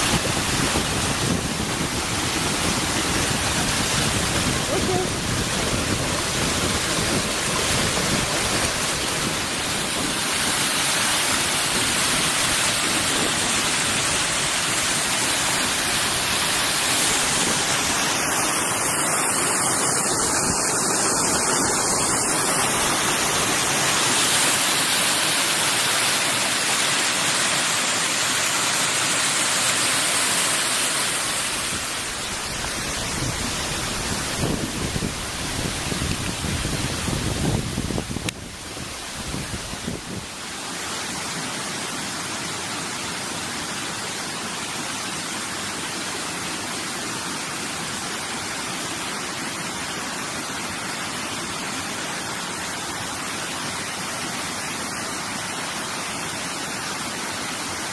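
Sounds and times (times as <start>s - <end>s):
stream rushing over rocks: 0.0s - 57.9s.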